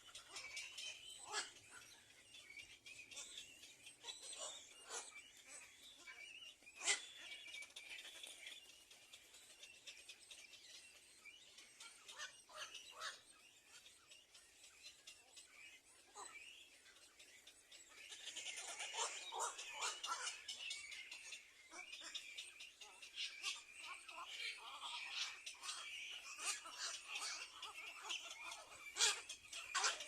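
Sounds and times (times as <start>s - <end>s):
faint bird chirps: 0.0s - 30.0s.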